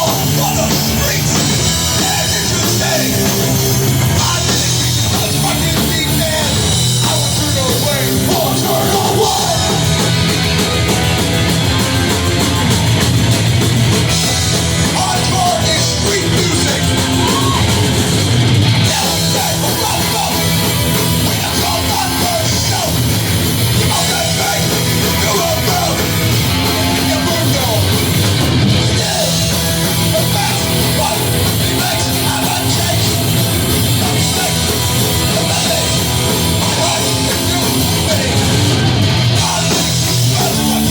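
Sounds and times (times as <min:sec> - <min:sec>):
shouted vocals: 0:00.0 - 0:13.1, 0:14.6 - 0:40.9
hardcore band playing live: 0:00.0 - 0:40.9.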